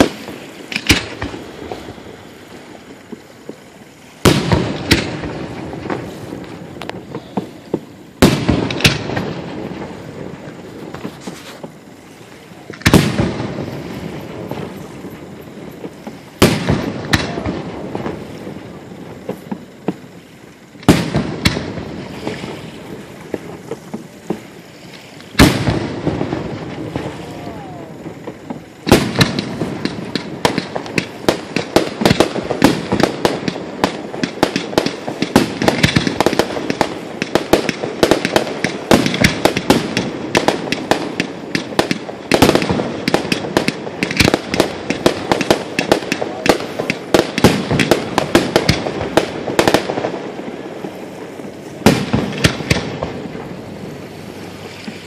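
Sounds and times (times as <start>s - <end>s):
crackling firework pops: 0.0s - 55.0s
firework shells booming: 0.0s - 55.0s.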